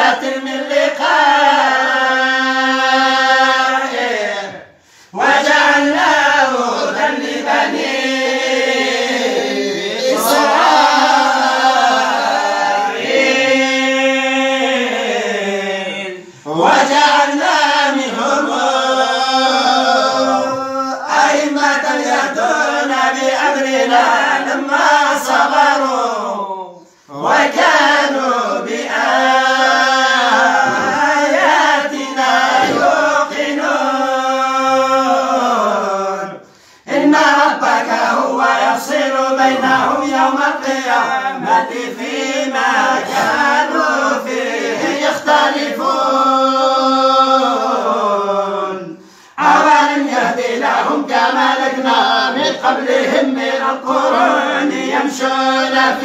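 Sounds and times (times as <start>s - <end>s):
voices reciting in unison: 0.0s - 56.0s.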